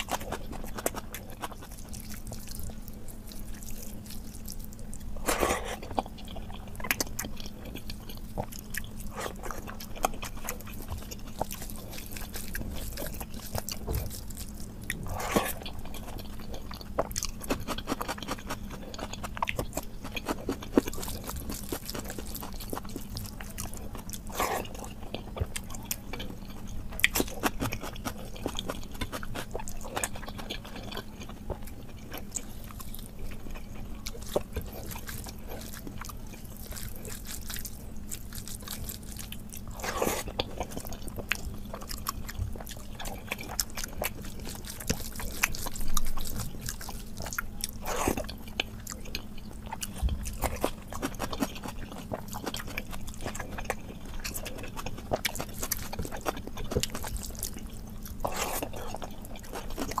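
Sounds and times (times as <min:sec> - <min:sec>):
chewing and lip smacks: 0:00.0 - 1:00.0
steady low hum: 0:00.0 - 1:00.0
wet squishing of food by hand: 0:00.0 - 1:00.0.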